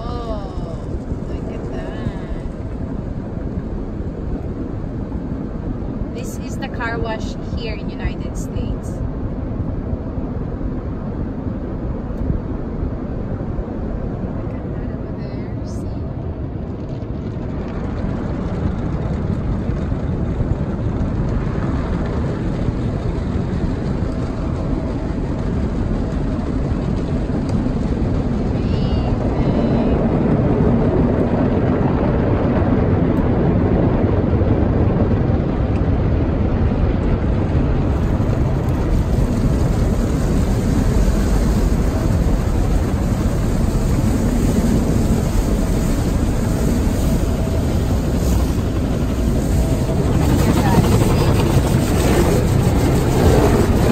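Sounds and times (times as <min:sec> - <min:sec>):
car wash spraying water and machinery: 0:00.0 - 0:53.9.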